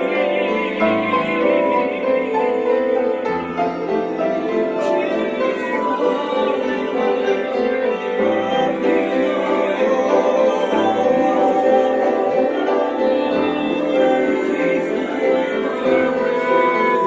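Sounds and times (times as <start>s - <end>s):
group singing worship song: 0.0s - 17.0s
piano accompaniment: 0.0s - 17.0s.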